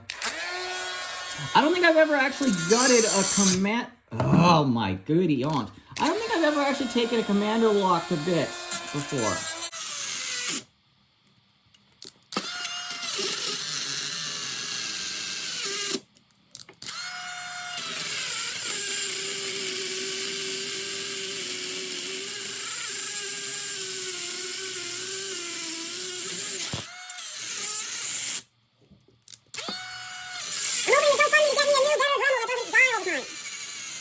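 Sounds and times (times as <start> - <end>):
rotary tool grinding metal: 0.1 - 3.7, 6.0 - 10.7, 12.4 - 16.1, 16.8 - 28.5, 29.5 - 34.0.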